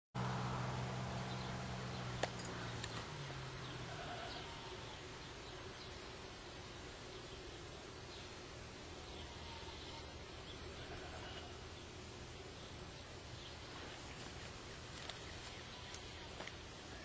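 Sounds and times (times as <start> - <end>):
insects chirping: 0.2 - 17.0.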